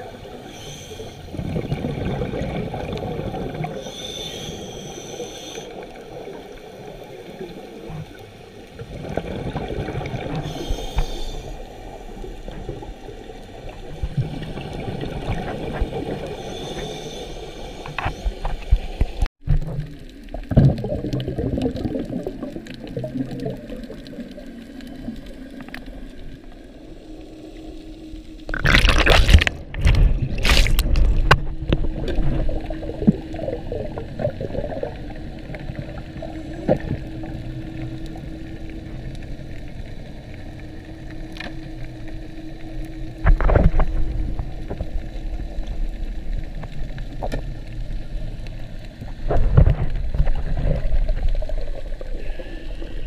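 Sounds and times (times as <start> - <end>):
muffled underwater rumble: 0.0 - 53.0.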